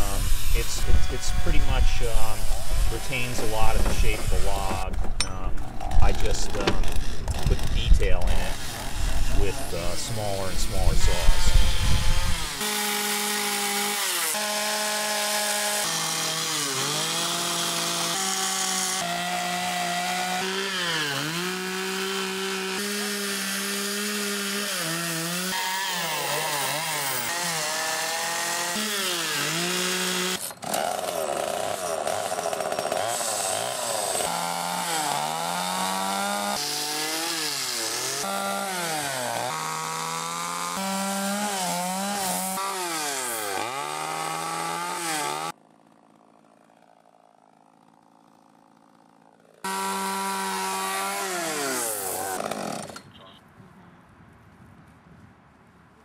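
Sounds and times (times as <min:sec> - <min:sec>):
chainsaw cutting into log: 0:00.0 - 0:53.1.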